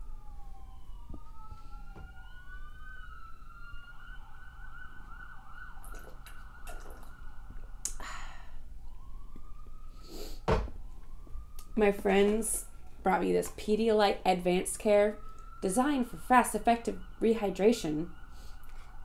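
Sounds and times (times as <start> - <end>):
emergency vehicle sirens: 0.0 - 19.0.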